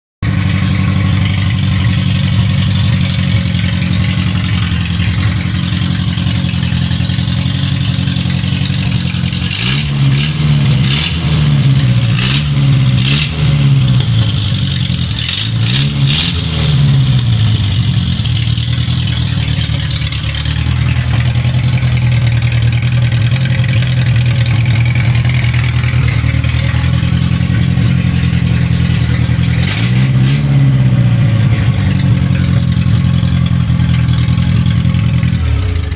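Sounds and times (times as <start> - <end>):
car engine idling and revving: 0.2 - 35.9.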